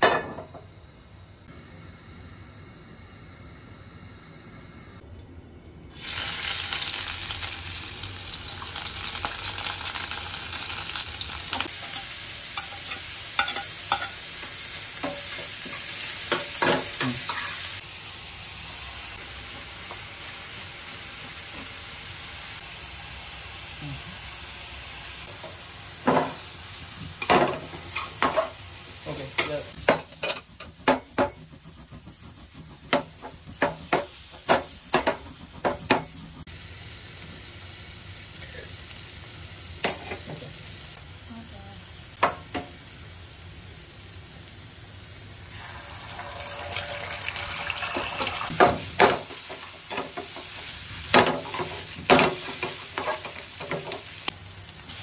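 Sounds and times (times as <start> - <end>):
oil sizzling: 0.0 - 55.0.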